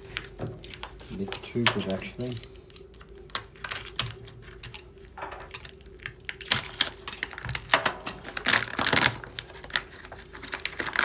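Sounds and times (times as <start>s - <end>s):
plastic bag crinkling and snapping: 0.0s - 11.0s.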